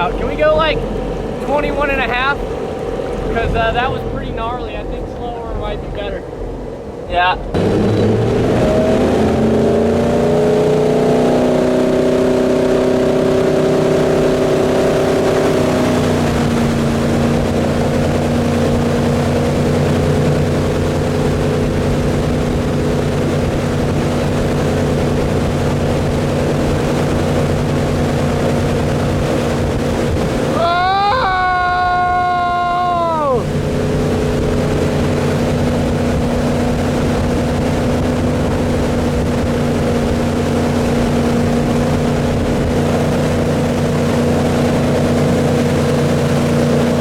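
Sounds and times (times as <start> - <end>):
boat engine accelerating: 0.0 - 47.0
water and wind rush: 0.0 - 47.0.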